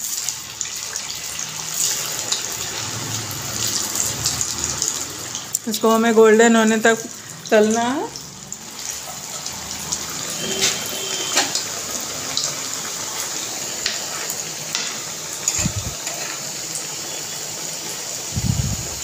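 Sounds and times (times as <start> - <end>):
food deep-frying in oil: 0.0 - 19.0.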